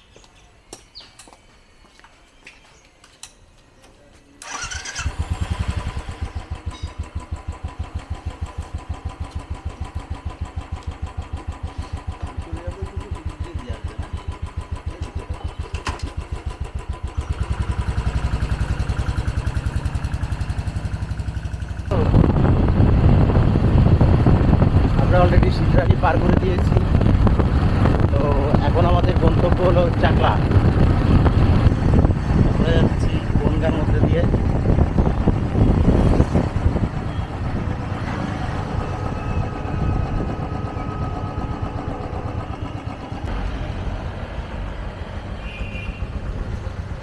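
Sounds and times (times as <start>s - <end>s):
motorcycle engine starting and idling: 4.4s - 45.4s.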